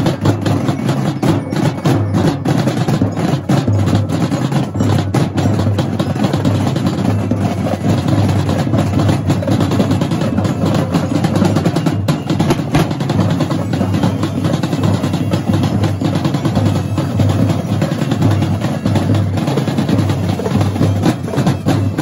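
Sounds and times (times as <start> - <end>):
marching drums playing: 0.0 - 22.0.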